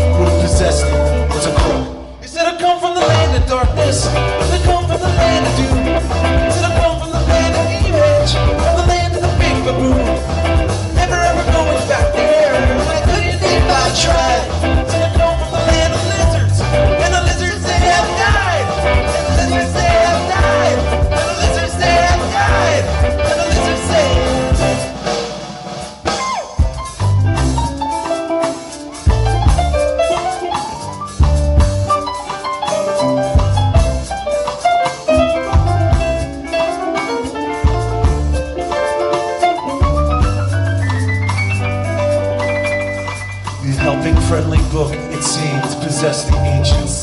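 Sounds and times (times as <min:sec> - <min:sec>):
live band playing instrumental: 0:00.0 - 0:47.0.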